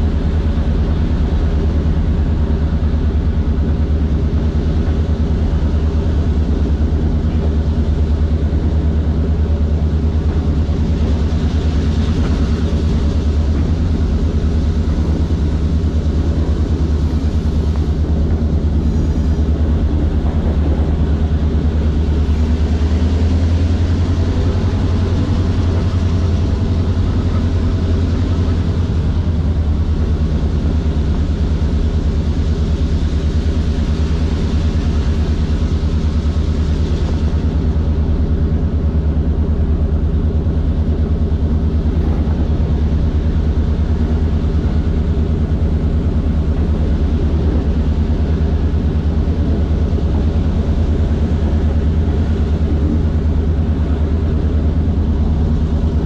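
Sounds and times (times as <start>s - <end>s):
diesel locomotive engine under load: 0.0s - 56.0s.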